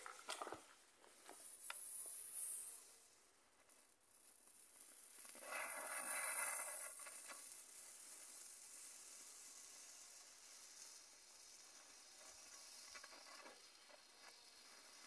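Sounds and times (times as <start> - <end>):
firework fountain sizzling hiss: 0.0 - 15.0.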